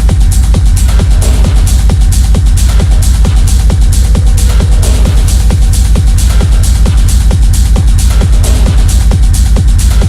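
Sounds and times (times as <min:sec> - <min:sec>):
kick drum: 0:00.0 - 0:10.0
off-beat hi-hats: 0:00.0 - 0:10.0.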